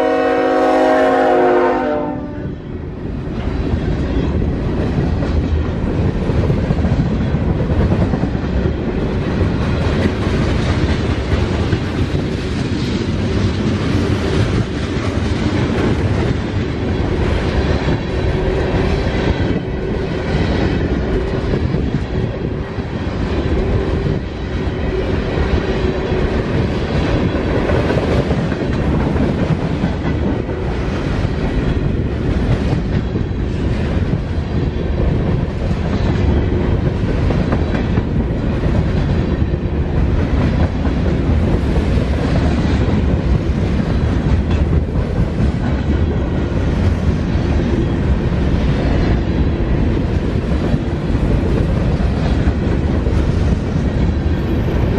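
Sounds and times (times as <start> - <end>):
freight train wheels rumbling on rail: 0.0 - 54.9
wheels clickety-clack: 3.4 - 24.6, 25.3 - 54.9.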